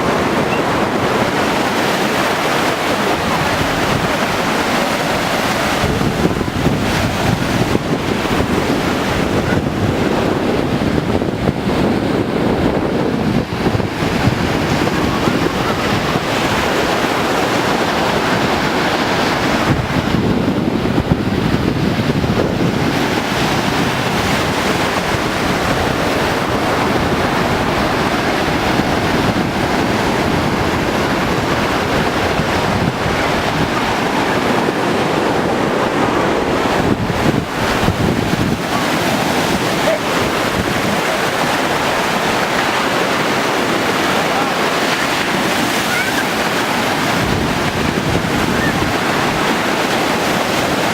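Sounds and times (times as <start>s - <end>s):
sea surf crashing on beach: 0.0s - 50.9s
wind buffeting microphone: 0.0s - 50.9s.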